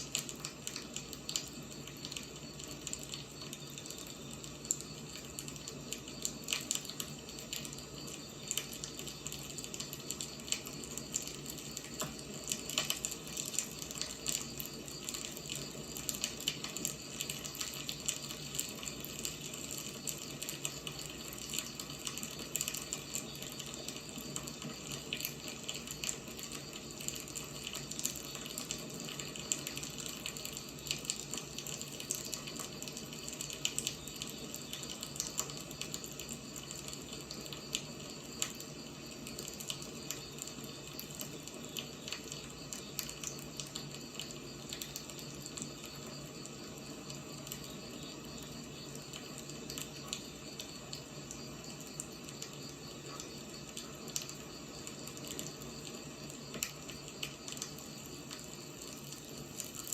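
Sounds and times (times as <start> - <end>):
fire hiss: 0.0 - 59.9
firewood crackling and popping: 0.0 - 59.9.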